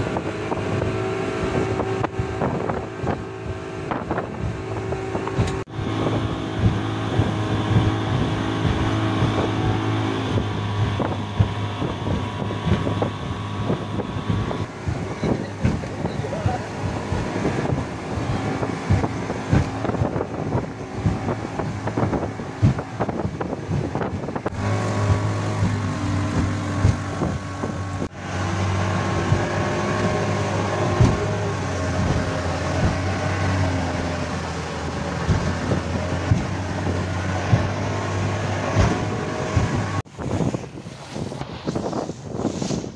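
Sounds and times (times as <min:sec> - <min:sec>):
hull slamming on waves: 0:00.0 - 0:42.9
speedboat engine running: 0:00.0 - 0:42.9
wind on microphone: 0:00.0 - 0:42.9.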